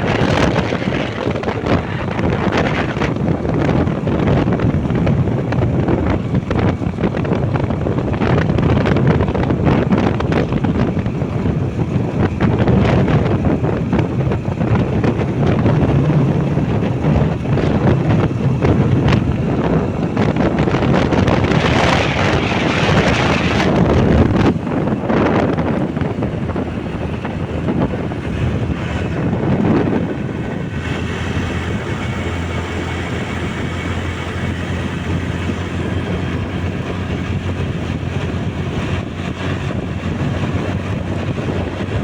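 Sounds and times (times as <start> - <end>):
motorbike engine running: 0.0 - 42.0
wind buffeting microphone: 0.0 - 42.0.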